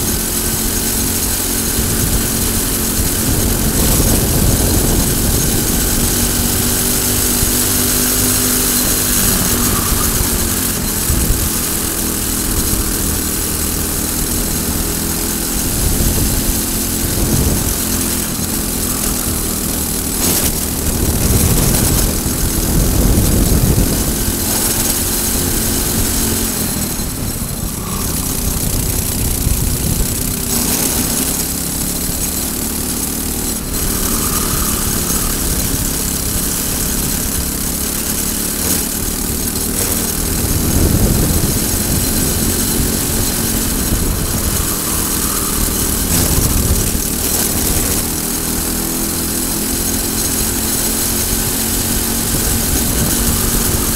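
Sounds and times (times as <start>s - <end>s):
kart engine revving: 0.0s - 53.9s.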